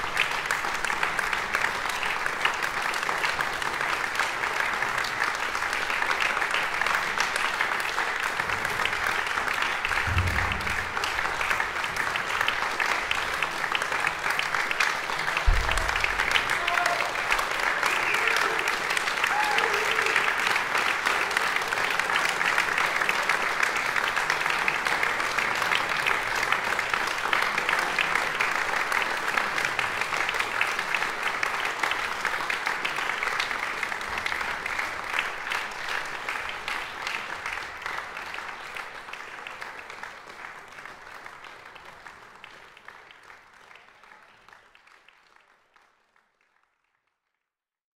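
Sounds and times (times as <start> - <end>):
audience applauding: 0.0 - 47.1.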